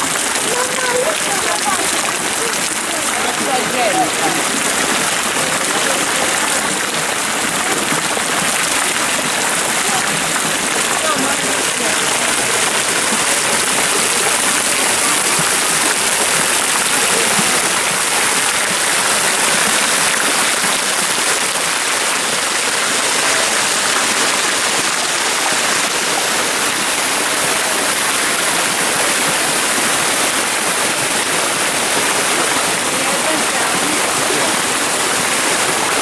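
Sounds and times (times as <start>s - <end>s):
fountain jets splashing: 0.0s - 36.0s
water cascades pouring: 0.0s - 36.0s.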